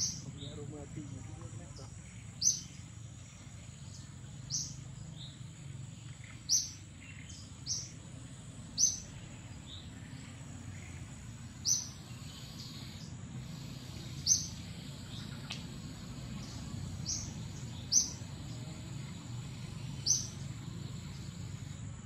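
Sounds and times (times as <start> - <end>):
birds chirping: 0.0 - 22.0
high insect whine: 0.0 - 22.0
low background rumble: 0.0 - 22.0.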